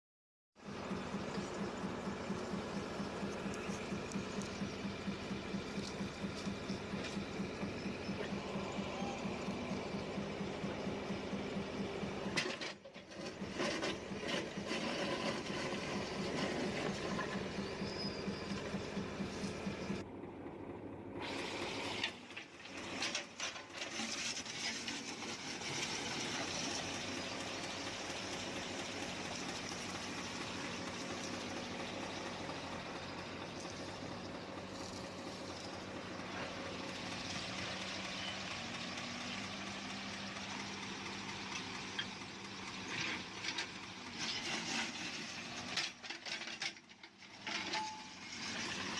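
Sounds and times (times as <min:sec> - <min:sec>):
heavy machinery diesel engine: 0:00.6 - 0:48.9.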